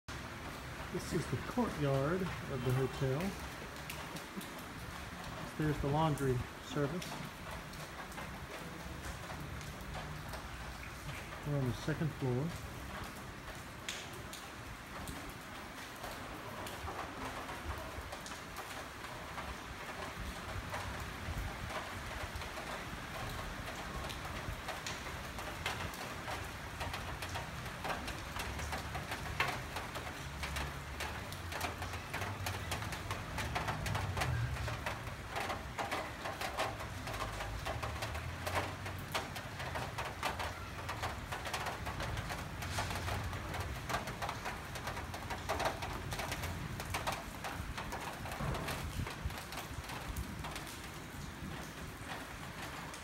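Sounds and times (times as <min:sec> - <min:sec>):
rain pattering on metal roofs: 0:00.1 - 0:53.0.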